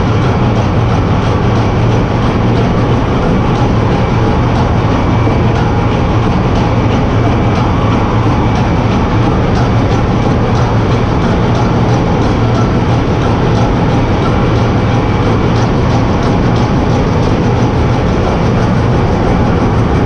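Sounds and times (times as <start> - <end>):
diesel engine mechanical din: 0.0 - 20.0
faint regular ticking: 0.0 - 20.0.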